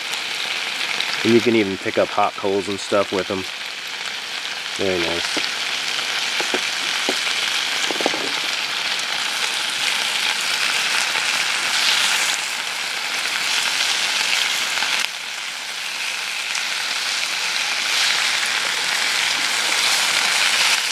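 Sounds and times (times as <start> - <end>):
bacon sizzling in a skillet: 0.0 - 20.9.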